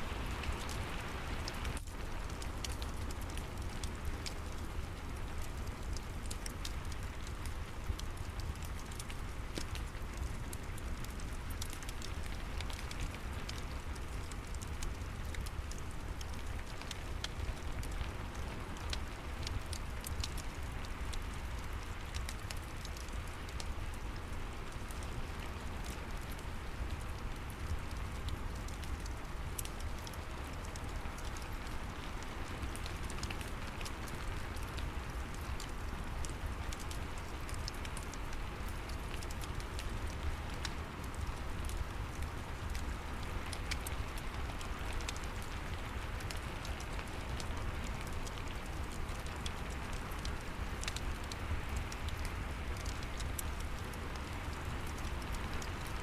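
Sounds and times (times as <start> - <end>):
steady rain: 0.0 - 56.0
wood fire crackling and popping: 0.0 - 56.0.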